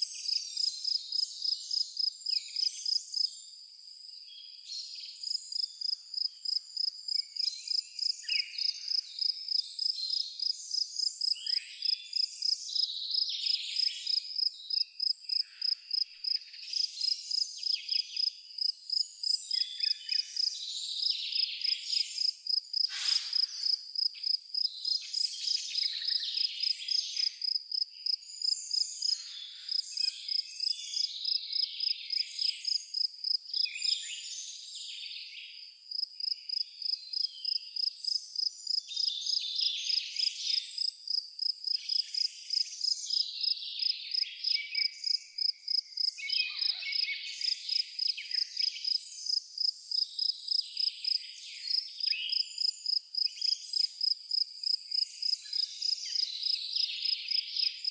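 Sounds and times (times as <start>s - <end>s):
cricket chirping: 0.0s - 4.2s, 4.9s - 34.2s, 35.5s - 57.9s
songbirds singing: 0.0s - 57.9s.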